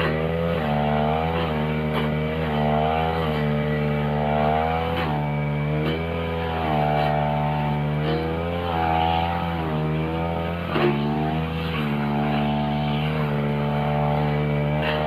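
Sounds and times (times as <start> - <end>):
brush cutter cutting grass: 0.0 - 15.0.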